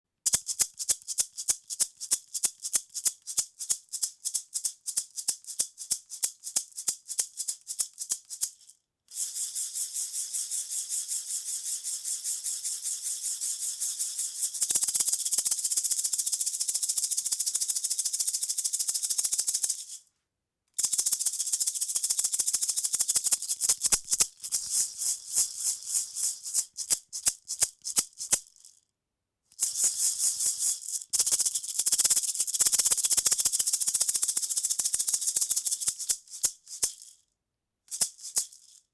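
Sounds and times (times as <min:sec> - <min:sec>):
maraca rattling: 0:00.3 - 0:20.0, 0:20.8 - 0:28.8, 0:29.6 - 0:37.2, 0:37.9 - 0:38.8.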